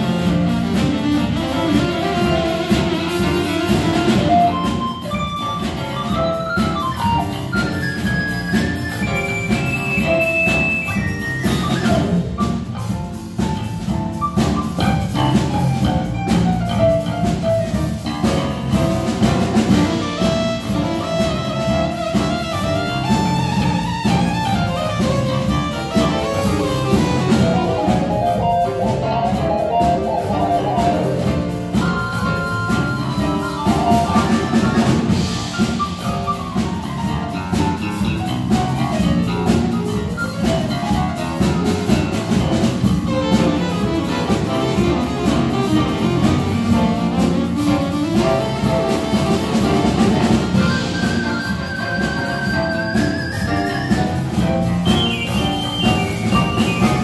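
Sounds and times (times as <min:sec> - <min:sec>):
jazz big band playing: 0:00.0 - 0:57.0.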